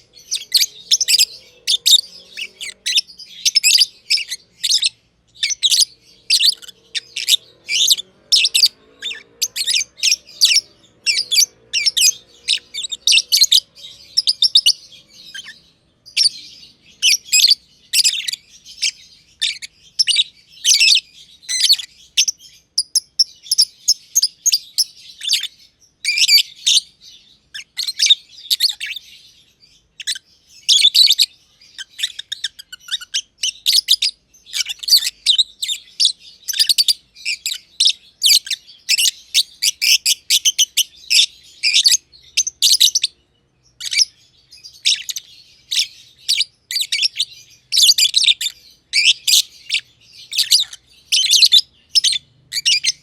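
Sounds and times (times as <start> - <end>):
lovebirds chirping shrilly: 0.0 - 53.0.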